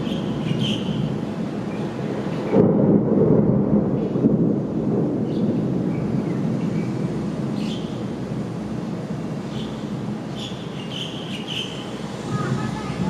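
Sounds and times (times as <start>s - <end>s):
thunder rumble: 0.0s - 10.7s, 11.9s - 13.0s.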